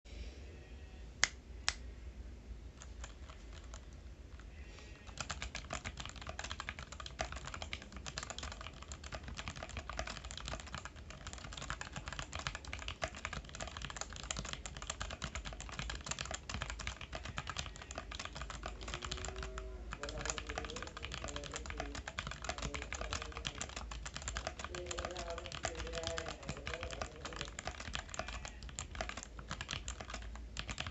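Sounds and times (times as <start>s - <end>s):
mechanical keyboard typing: 2.8s - 30.9s.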